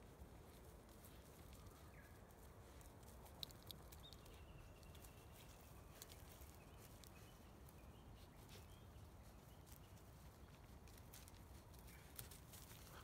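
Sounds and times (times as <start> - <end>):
rustles of dry grass: 0.0 - 13.0.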